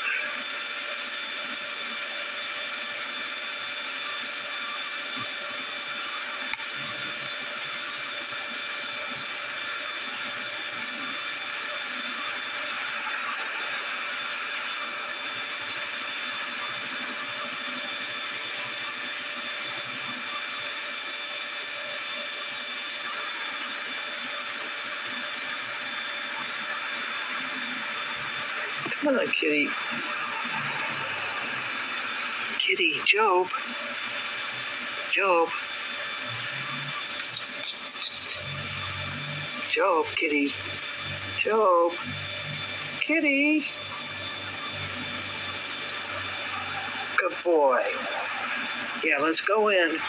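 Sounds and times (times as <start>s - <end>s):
mechanical whirring with whining tones: 0.0s - 50.0s.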